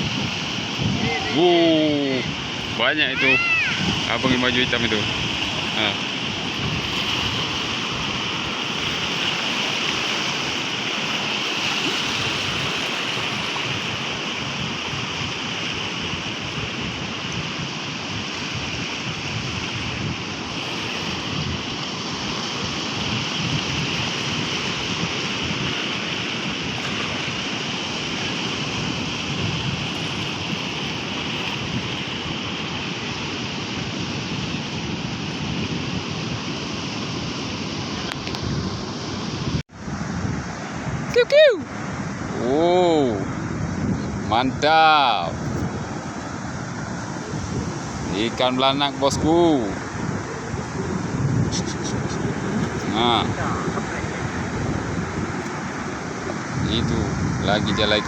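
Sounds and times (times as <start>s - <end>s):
waves breaking: 0.0s - 58.0s.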